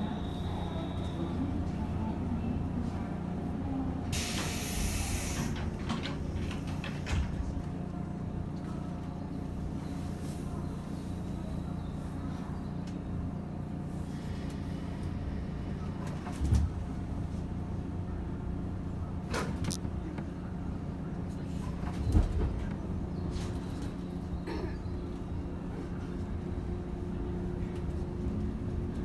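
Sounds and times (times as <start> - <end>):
train cabin low hum: 0.0 - 29.0.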